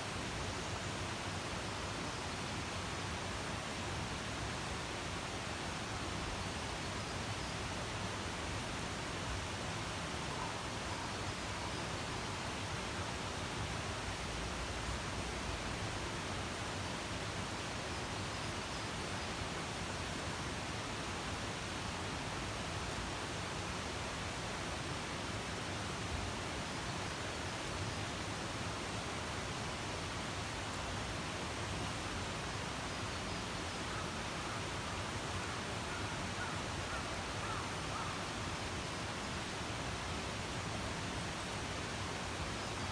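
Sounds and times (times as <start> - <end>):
steady outdoor hiss: 0.0 - 42.9.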